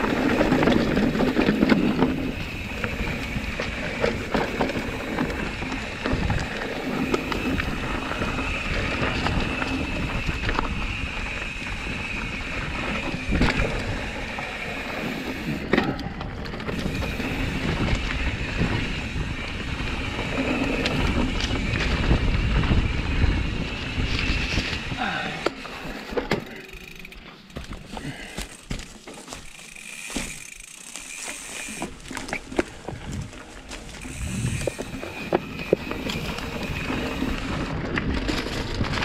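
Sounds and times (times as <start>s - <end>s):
wind rumble on microphone: 0.0s - 25.5s, 32.5s - 39.0s
bike rattling over bumps: 0.0s - 39.0s
bike tyres rolling over dirt: 0.0s - 39.0s.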